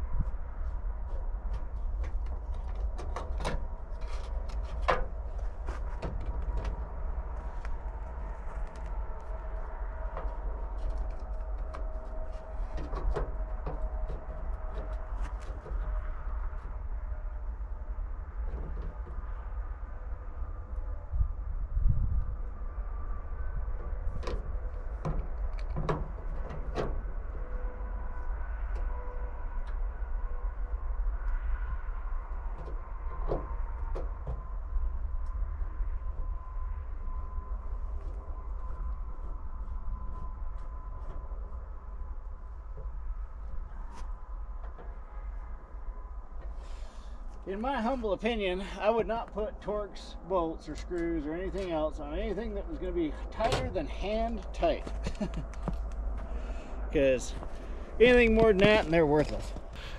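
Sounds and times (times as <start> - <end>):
steady low rumble: 0.0 - 59.9.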